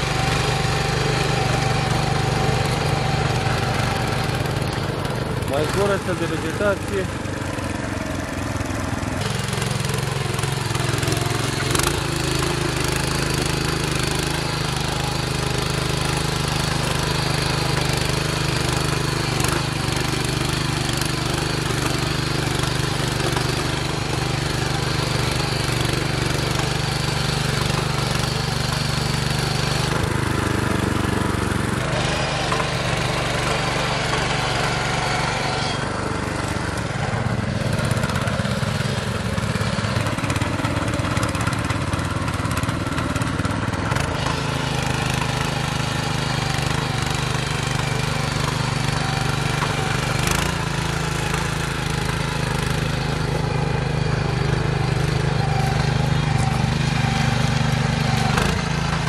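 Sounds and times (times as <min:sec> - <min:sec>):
tiller engine running: 0:00.0 - 0:59.0.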